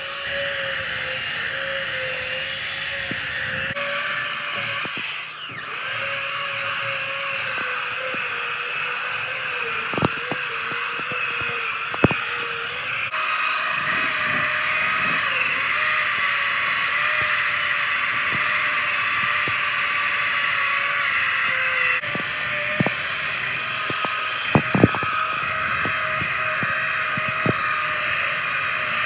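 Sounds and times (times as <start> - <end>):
belt sander whining: 0.0 - 29.0.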